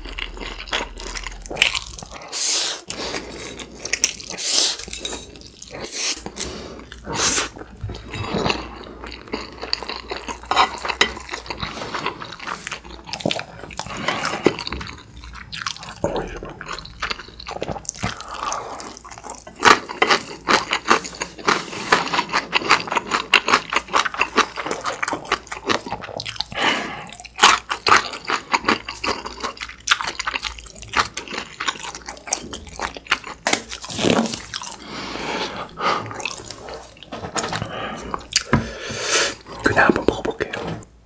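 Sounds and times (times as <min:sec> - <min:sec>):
person chewing noodles: 0:00.0 - 0:40.6.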